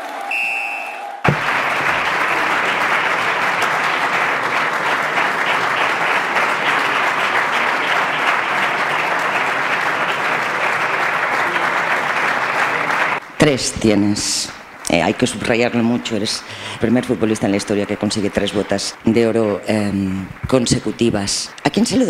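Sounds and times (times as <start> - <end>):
audience applause: 0.0 - 13.3, 14.4 - 22.0.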